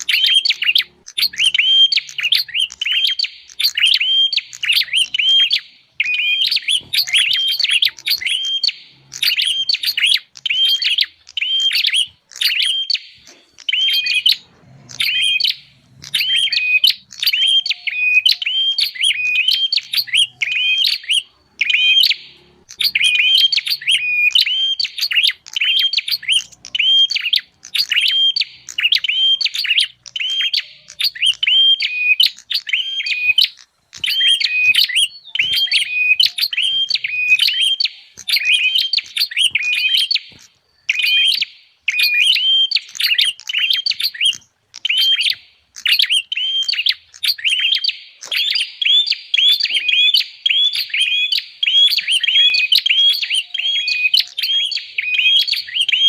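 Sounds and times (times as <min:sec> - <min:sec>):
bird sharp chirps: 0:00.0 - 0:56.0.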